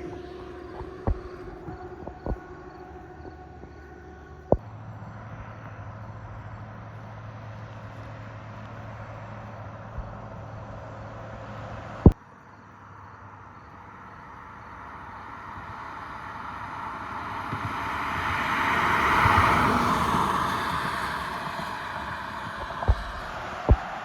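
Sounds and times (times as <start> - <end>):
vehicle driving past: 0.0 - 12.2, 14.6 - 24.0.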